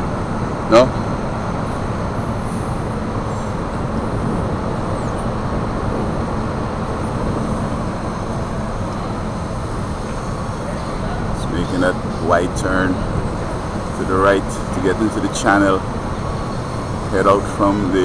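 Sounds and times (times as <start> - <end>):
ship machinery low rumble: 0.0 - 18.0.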